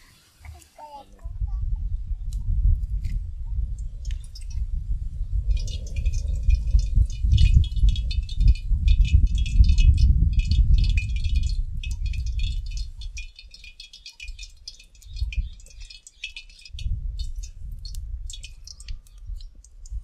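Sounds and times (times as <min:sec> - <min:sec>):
wind buffeting microphone: 0:01.2 - 0:20.0.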